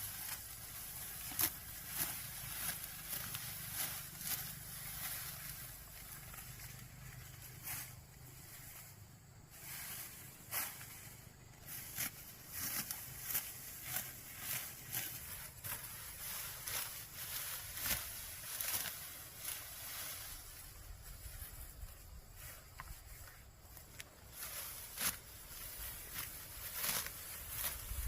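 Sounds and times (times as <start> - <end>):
rice stalks rustling: 0.0 - 28.0.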